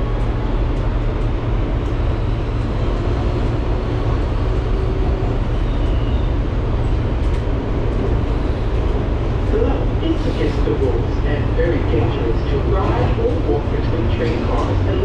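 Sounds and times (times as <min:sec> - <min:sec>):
subway car rumbling: 0:00.0 - 0:15.0.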